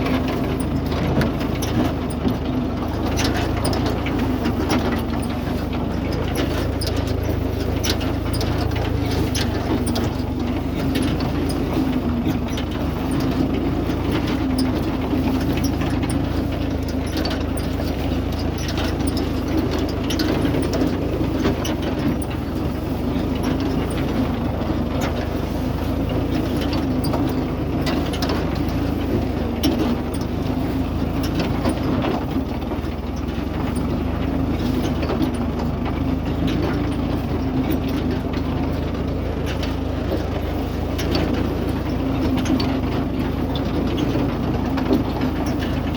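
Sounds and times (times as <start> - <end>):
hay baler engine drone: 0.0 - 45.9
machinery clicks and clatter: 0.0 - 45.9.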